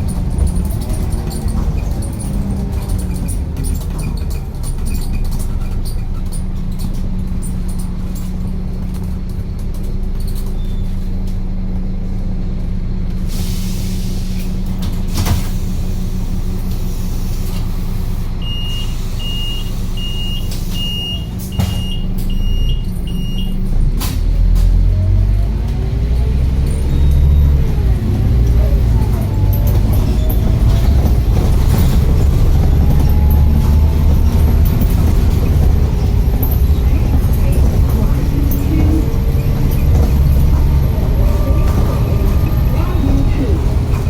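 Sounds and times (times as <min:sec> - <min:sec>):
large vehicle engine idling: 0:00.0 - 0:44.0.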